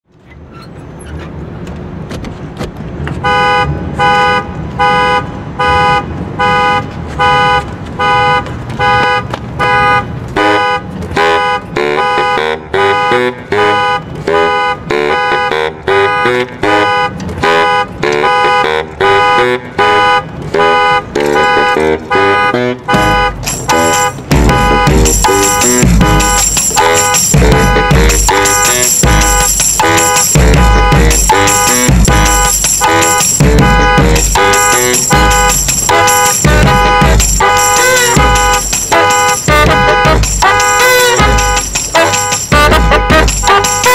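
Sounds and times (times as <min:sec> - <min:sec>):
car alarm beeping: 0:03.2 - 0:43.9
baritone saxophone riff: 0:03.3 - 0:43.9.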